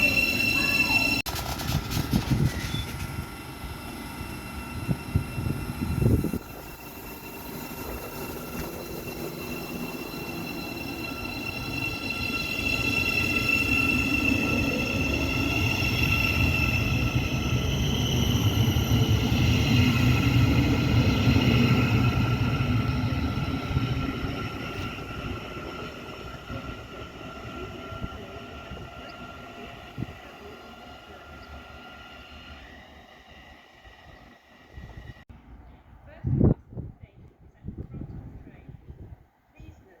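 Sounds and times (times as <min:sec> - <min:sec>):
high whining tones: 0:00.0 - 0:01.3, 0:02.2 - 0:35.2
electric train passing: 0:00.0 - 0:35.6.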